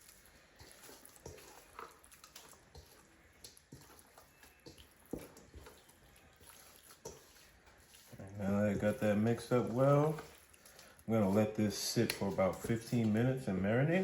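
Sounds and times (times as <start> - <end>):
wet squishing of fish: 0.0 - 13.0.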